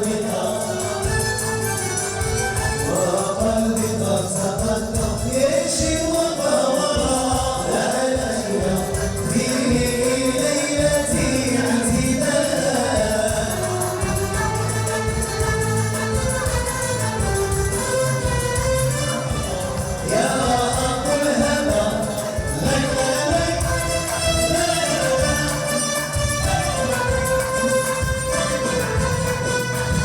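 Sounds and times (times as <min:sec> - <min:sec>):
group of voices singing: 0:00.0 - 0:30.0
hand-drum percussion: 0:00.0 - 0:30.0.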